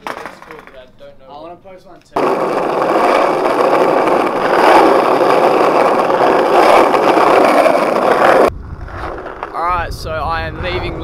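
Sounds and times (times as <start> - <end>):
skateboard wheels rolling on asphalt: 2.2 - 11.0.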